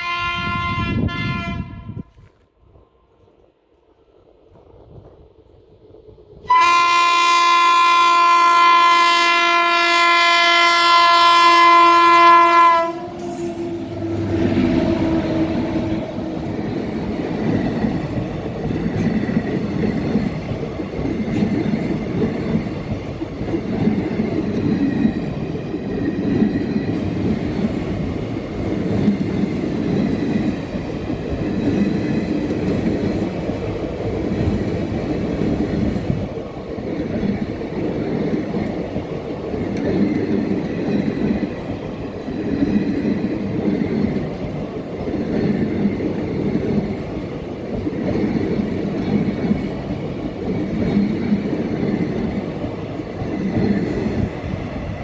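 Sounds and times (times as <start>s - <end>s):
train coaches rumbling on rails: 0.0s - 55.0s.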